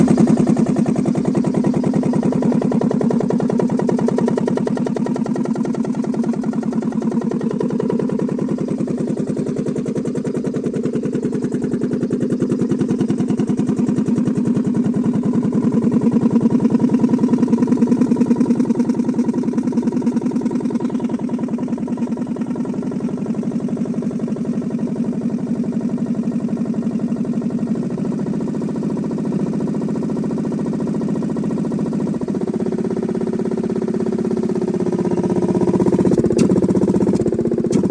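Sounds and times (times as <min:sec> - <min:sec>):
compressor engine running: 0:00.0 - 0:25.8, 0:26.5 - 0:37.9.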